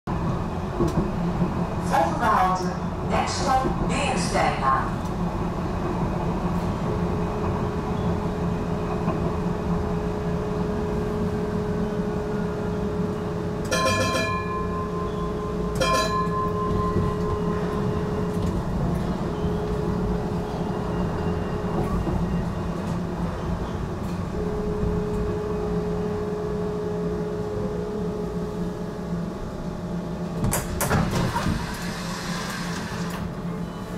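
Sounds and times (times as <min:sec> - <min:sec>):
tram motor whine: 0:00.1 - 0:33.9
tram wheels rumbling on rail: 0:00.1 - 0:33.9.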